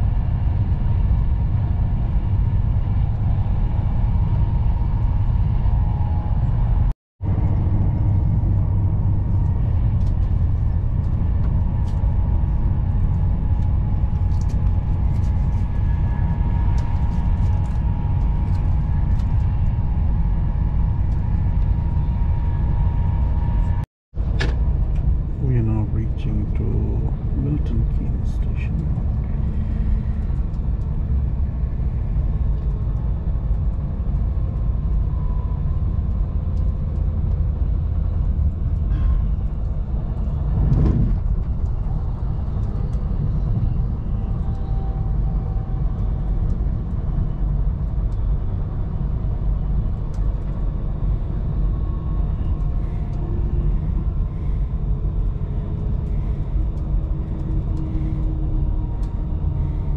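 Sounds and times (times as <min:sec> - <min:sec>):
train rumbling inside carriage: 0:00.0 - 0:59.9.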